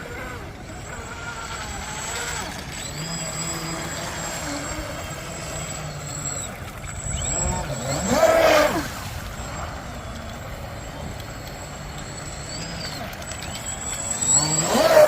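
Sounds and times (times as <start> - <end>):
electric boat motor whining: 0.0 - 15.0.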